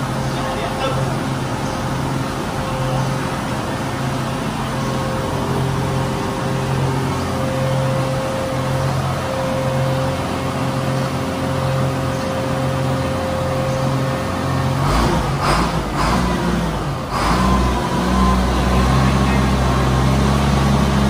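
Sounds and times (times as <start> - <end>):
excavator diesel engine idling: 0.0 - 21.0
heavy rough low rumble: 0.0 - 21.0.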